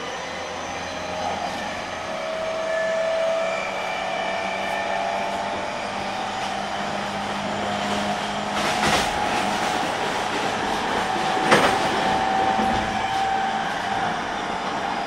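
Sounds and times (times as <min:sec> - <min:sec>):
train motor whine: 0:00.0 - 0:15.0
wheels rolling on rail: 0:00.0 - 0:15.0.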